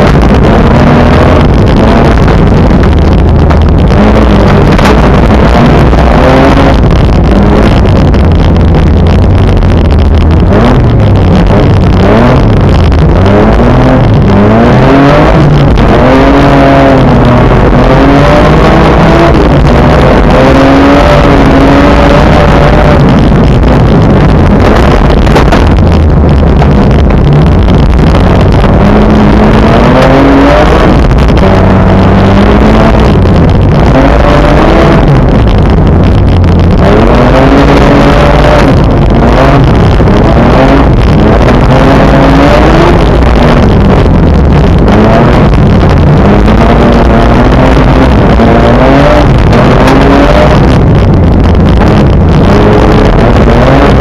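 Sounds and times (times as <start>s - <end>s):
car engine accelerating through gears: 0.0s - 54.0s
road noise: 0.0s - 54.0s.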